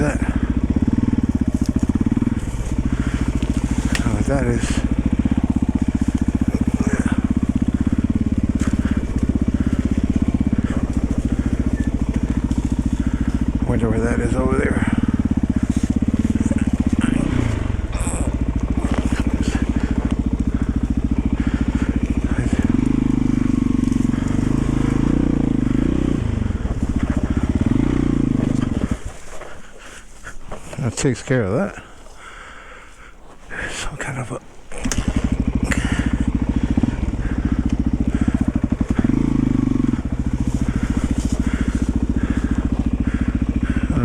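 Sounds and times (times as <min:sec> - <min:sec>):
faint crackles: 0:00.0 - 0:44.0
single-cylinder engine running: 0:00.0 - 0:44.0.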